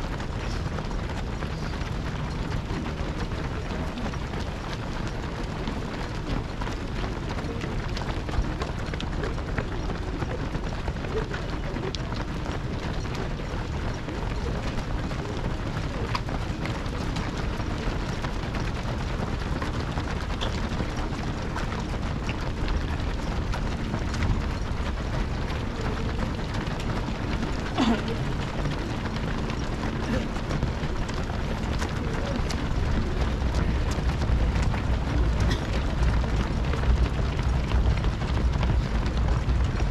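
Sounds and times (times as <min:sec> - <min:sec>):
many footsteps of runners: 0:00.0 - 0:39.9.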